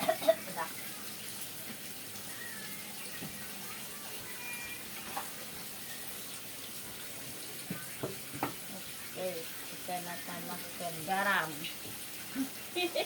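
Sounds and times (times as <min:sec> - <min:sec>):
broth bubbling in a pot: 0:00.0 - 0:13.0.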